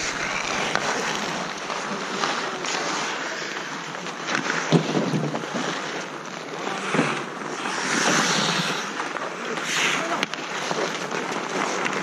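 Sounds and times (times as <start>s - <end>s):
hockey sticks and puck clacking: 0.0s - 6.1s, 6.8s - 12.0s
skate blades scraping on ice: 0.0s - 12.0s.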